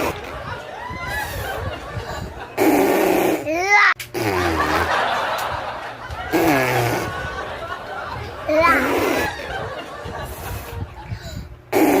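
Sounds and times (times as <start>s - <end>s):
high swooping laughing voices: 0.0s - 12.0s.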